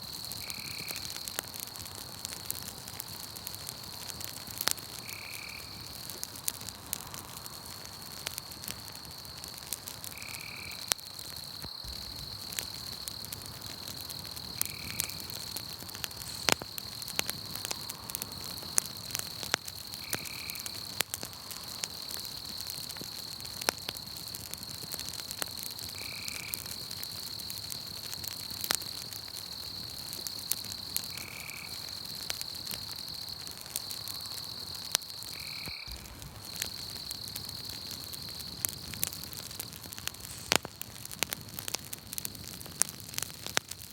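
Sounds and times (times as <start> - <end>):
insect trill: 0.0 - 2.5, 3.2 - 40.7
campfire crackling: 0.0 - 43.9.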